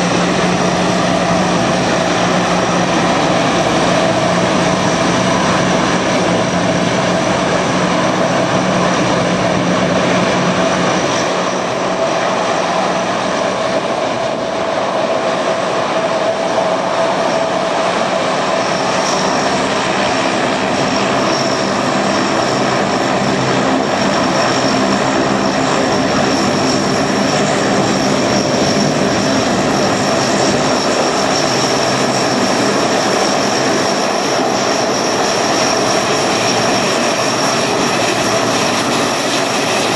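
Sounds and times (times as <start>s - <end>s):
high engine whine: 0.0s - 39.9s
turboprop engines droning: 0.0s - 39.9s.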